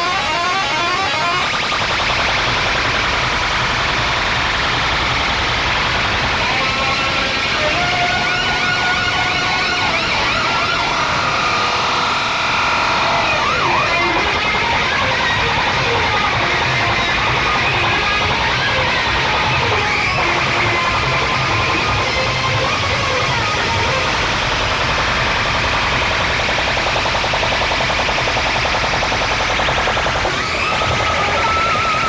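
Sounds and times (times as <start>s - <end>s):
heavy pulsing bass beat: 1.5s - 32.0s.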